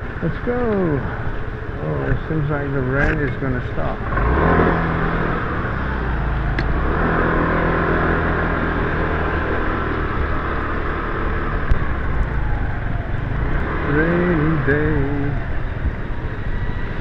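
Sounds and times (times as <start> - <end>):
motorbike engine running: 0.0 - 17.0
wind and road noise: 0.0 - 17.0.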